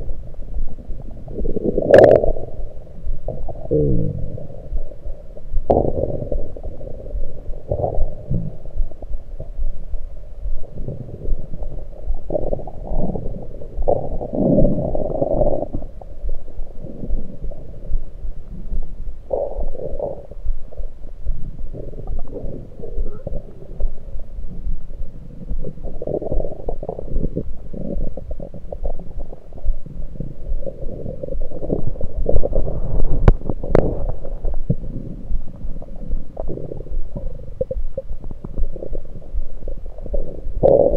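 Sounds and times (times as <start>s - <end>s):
stomach gurgling: 0.0s - 40.9s.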